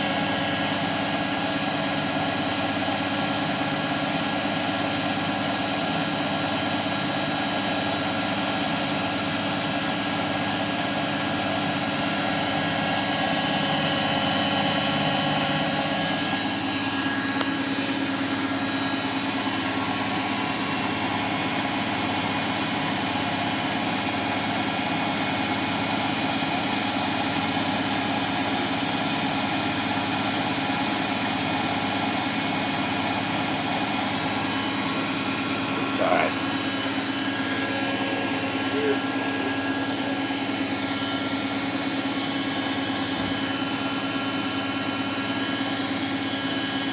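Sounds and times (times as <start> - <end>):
washing machine spinning with whine: 0.0 - 46.9.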